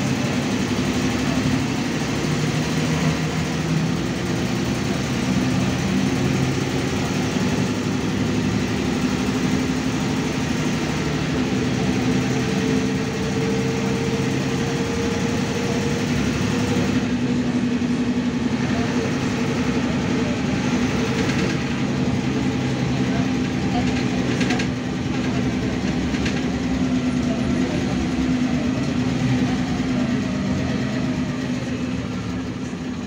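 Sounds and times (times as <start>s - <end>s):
bus diesel engine running: 0.0s - 33.0s
road and tyre noise: 0.0s - 33.0s.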